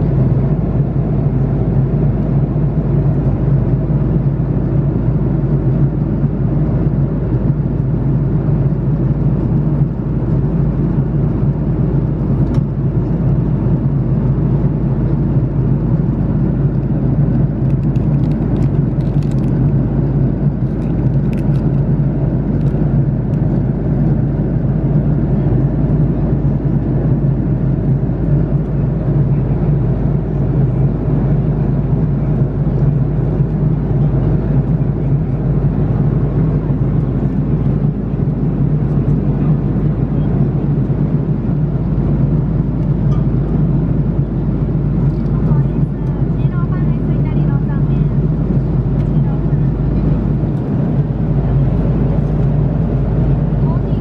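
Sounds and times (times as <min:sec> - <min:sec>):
aircraft cabin drone: 0:00.0 - 0:54.0.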